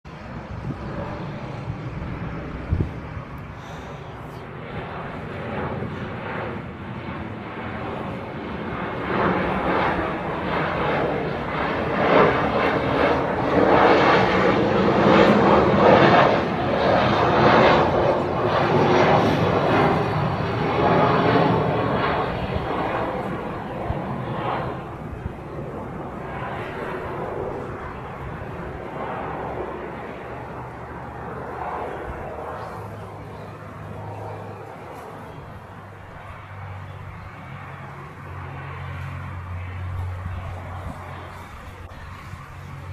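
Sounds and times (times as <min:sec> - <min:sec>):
airplane passing by: 0:00.1 - 0:42.9.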